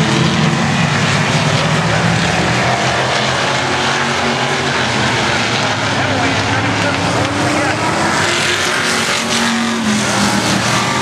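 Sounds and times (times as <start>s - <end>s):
stock car engines racing: 0.0s - 11.0s.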